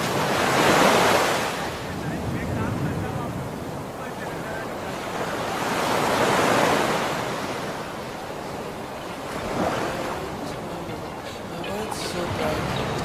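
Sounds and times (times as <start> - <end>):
sea surf washing in: 0.0 - 13.0.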